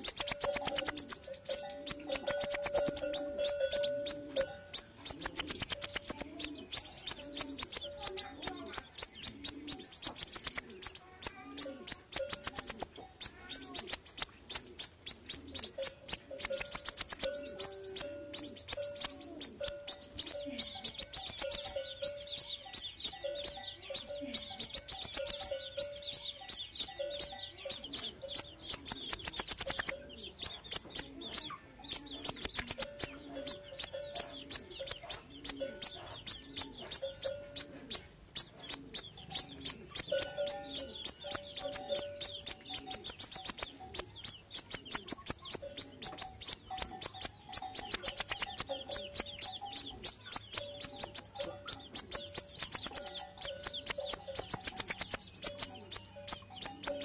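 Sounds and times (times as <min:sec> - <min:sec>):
high-pitched ticking bird trills: 0:00.0 - 0:57.0.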